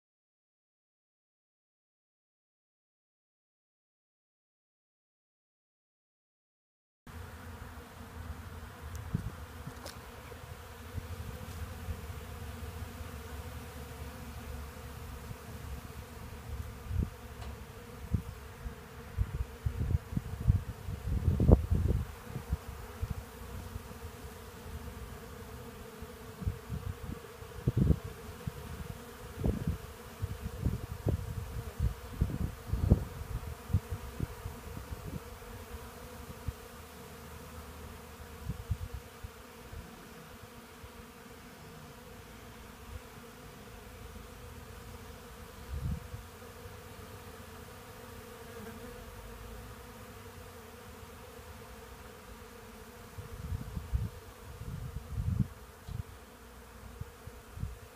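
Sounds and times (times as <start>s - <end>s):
bees buzzing: 7.1s - 57.9s.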